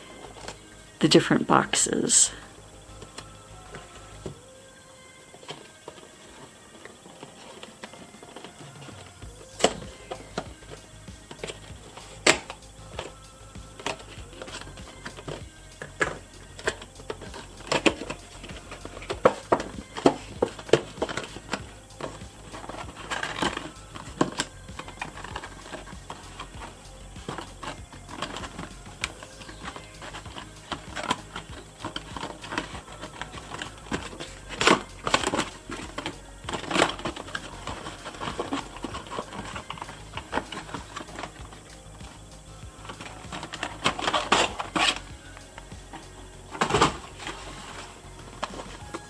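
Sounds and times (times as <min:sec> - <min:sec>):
plastic packaging clicks and crinkles: 0:03.0 - 0:42.2, 0:42.8 - 0:49.0.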